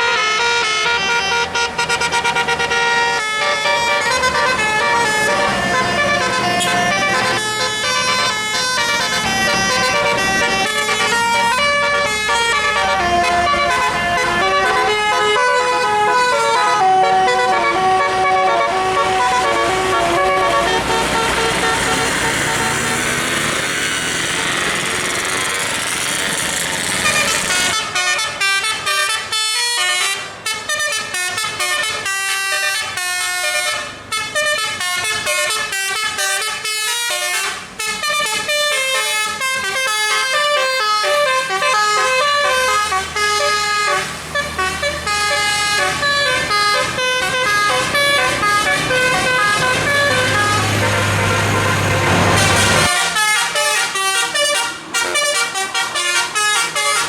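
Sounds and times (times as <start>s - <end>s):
bus musical air horn: 0.0s - 57.0s.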